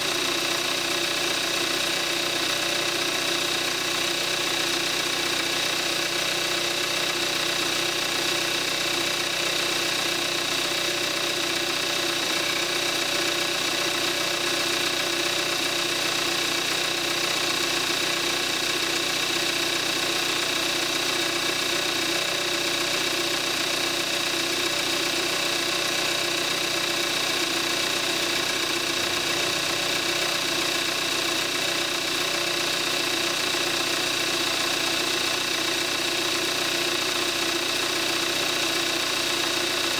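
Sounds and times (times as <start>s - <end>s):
car engine idling with whine: 0.0s - 39.9s.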